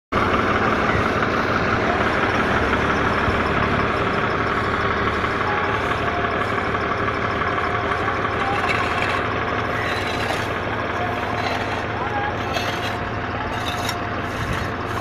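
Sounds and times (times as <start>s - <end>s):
heavy machinery engine idling: 0.1s - 15.0s.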